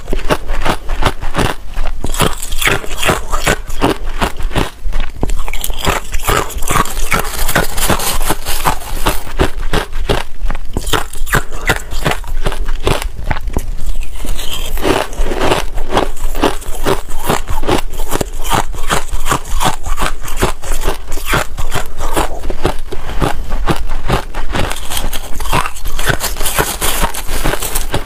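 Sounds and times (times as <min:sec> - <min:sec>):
crushed ice being chewed: 0:00.0 - 0:28.0.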